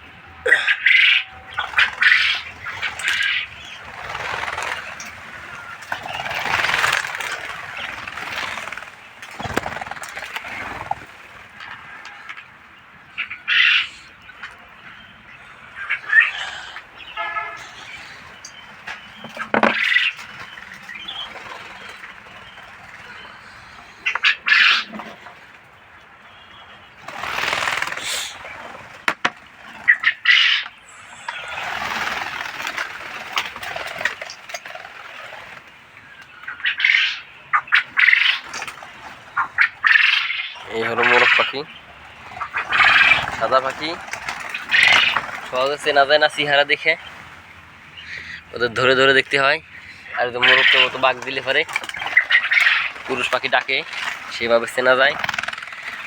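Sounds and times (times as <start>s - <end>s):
quail chirping: 0.0s - 25.6s, 26.2s - 56.0s
wing flapping: 0.5s - 25.7s, 26.8s - 56.0s.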